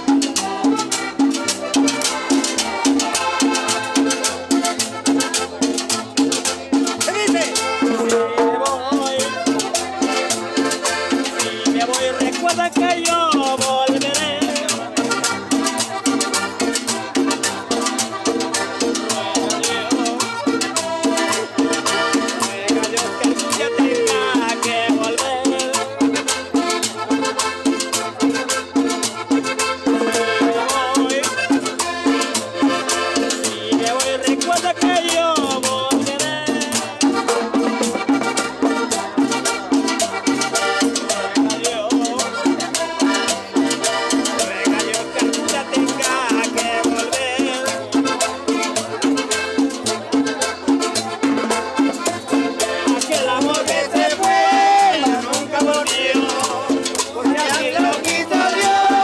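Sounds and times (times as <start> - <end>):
salsa music: 0.0 - 59.0
shaker percussion: 0.0 - 59.0.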